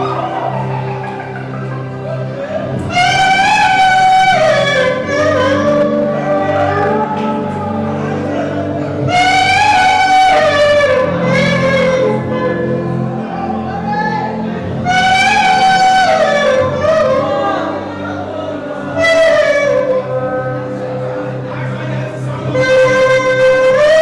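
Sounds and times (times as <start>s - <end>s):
person singing long notes: 0.0s - 24.0s
sustained low chords: 0.0s - 24.0s.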